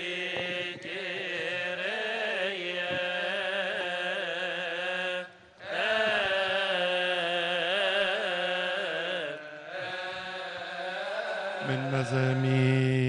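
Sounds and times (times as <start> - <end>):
voices singing liturgical chant: 0.0 - 13.0.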